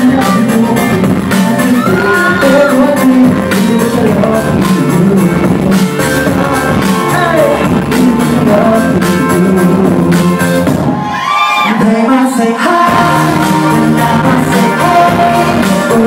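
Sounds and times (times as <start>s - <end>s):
man singing: 0.0s - 11.0s, 11.6s - 16.0s
club music with steady beat: 0.0s - 16.0s.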